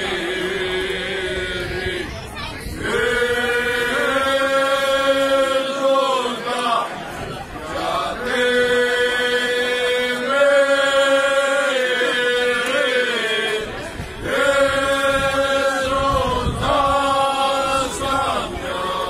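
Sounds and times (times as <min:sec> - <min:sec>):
men singing a cappella: 0:00.0 - 0:02.0, 0:02.8 - 0:06.9, 0:07.6 - 0:19.0.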